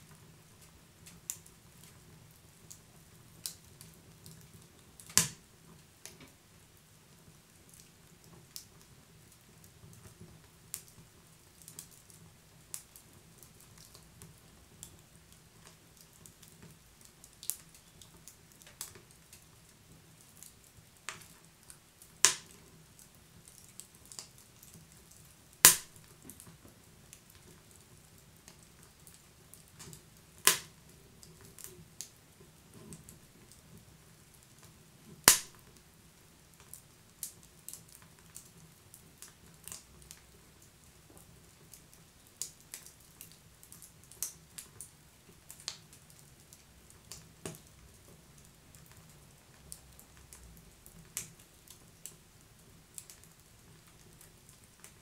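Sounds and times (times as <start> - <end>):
faint low hiss: 0.0 - 55.0
wood fire crackling and popping: 0.0 - 55.0.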